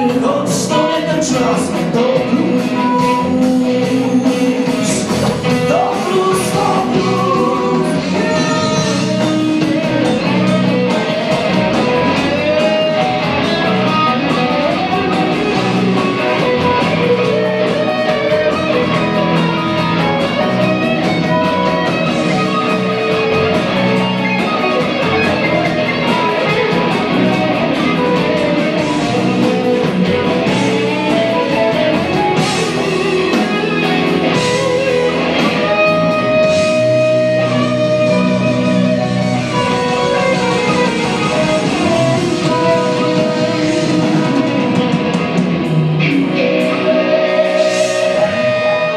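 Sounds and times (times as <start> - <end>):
blues-rock band playing: 0.0 - 48.9.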